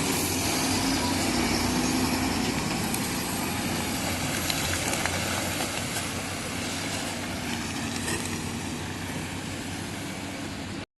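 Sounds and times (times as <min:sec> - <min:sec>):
diesel truck engine running: 0:00.0 - 0:10.9.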